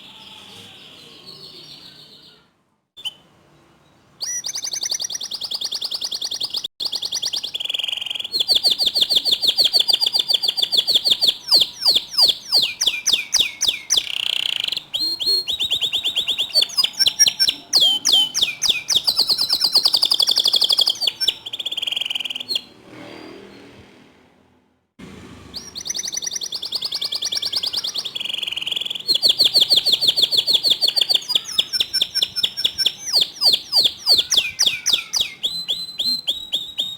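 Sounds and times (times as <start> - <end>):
canary singing trills: 0.0 - 22.8, 25.5 - 36.9.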